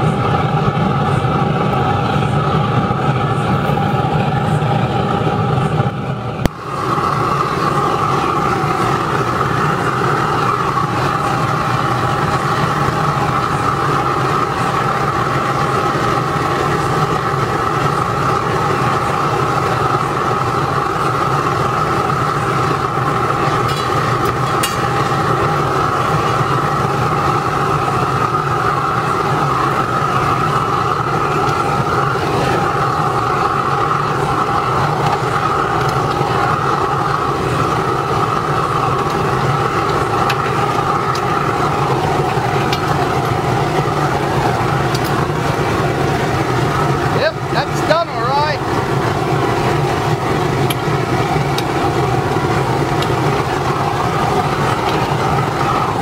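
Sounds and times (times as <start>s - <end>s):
furnace burner roaring: 0.0s - 56.0s.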